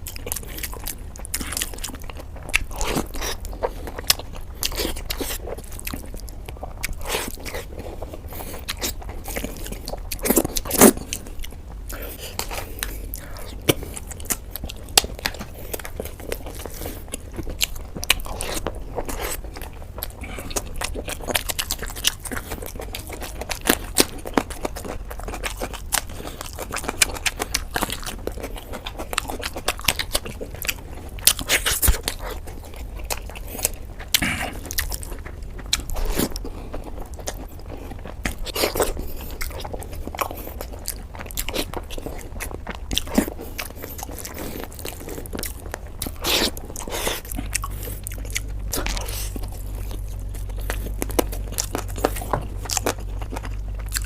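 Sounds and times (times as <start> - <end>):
chewing and crunching food: 0.0 - 54.0
steady low hum: 0.0 - 54.0.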